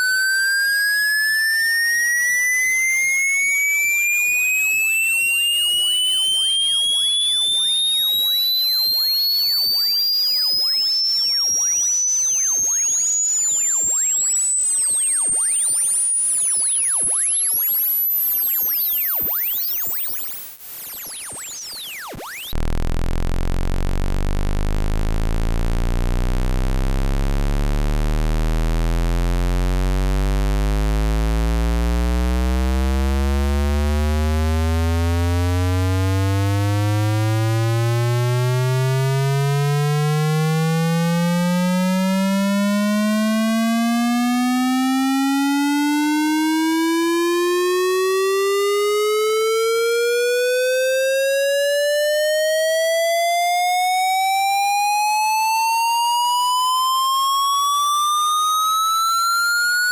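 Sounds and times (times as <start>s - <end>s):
high-pitched tone sweeping upward: 0.0s - 22.6s, 30.8s - 59.9s
low buzzy tone gliding upward: 0.0s - 59.9s.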